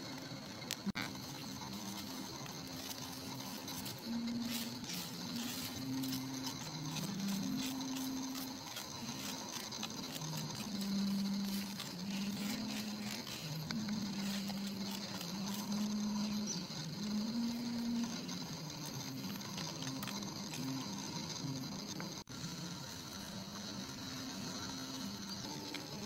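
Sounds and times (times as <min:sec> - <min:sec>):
high insect chorus: 0:00.0 - 0:26.0
flying insect buzzing: 0:00.8 - 0:22.3.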